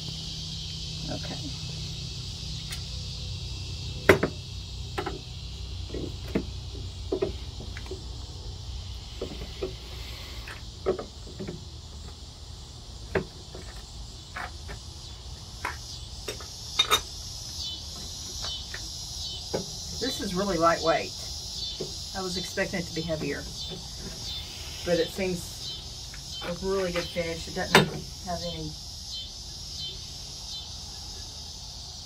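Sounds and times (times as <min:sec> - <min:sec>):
insect trill: 0:00.0 - 0:32.0.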